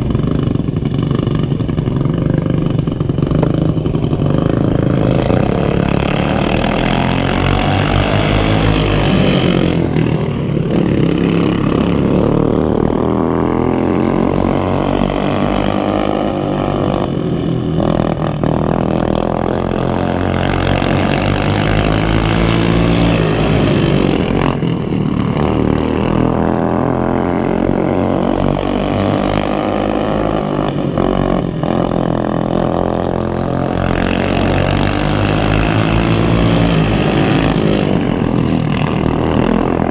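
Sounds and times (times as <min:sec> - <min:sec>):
racing lawnmower engines: 0:00.0 - 0:39.9.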